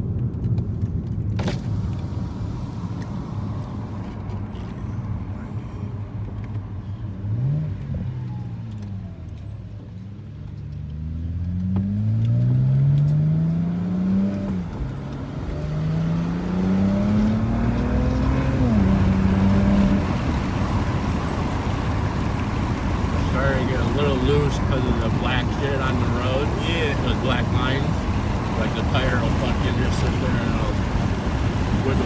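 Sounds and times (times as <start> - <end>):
car engine accelerating: 0.1 - 32.0.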